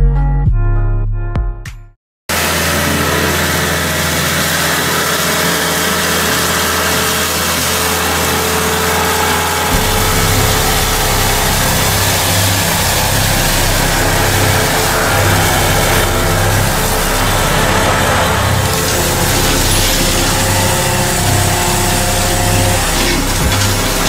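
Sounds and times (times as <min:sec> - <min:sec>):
engine hum: 0:02.3 - 0:24.0
hedge cutter whirring hiss: 0:02.3 - 0:24.0.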